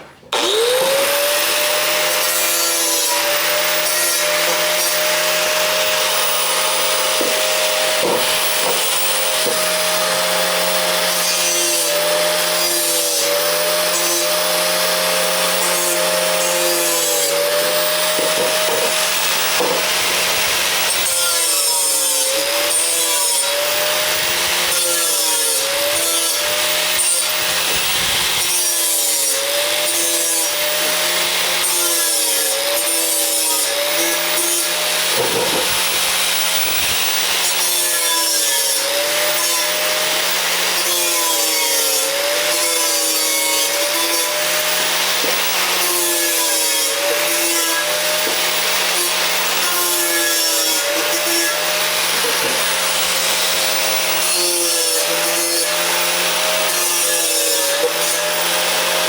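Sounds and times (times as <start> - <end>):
angle grinder grinding metal: 0.0 - 59.0.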